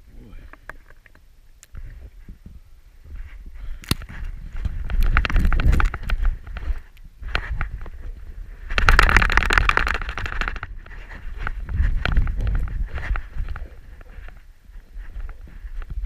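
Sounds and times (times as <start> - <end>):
wind on microphone: 1.7 - 16.0
low rumble of movement: 1.8 - 16.0
camera rubbing and creaking: 3.1 - 16.0.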